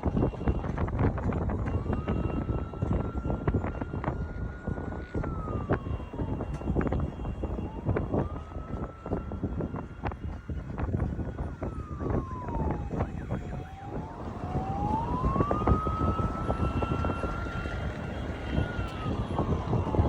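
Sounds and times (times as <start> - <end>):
low traffic rumble: 0.0 - 20.0
siren wailing: 0.0 - 20.0.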